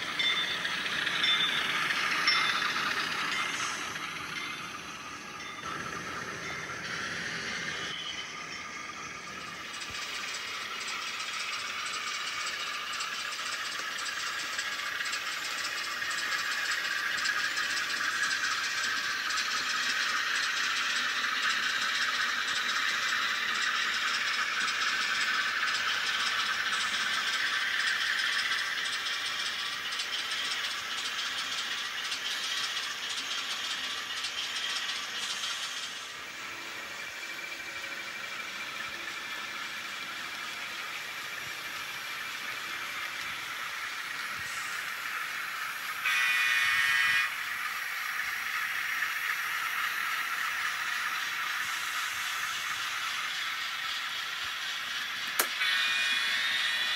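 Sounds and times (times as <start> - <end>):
model train running on track: 0.0 - 56.9.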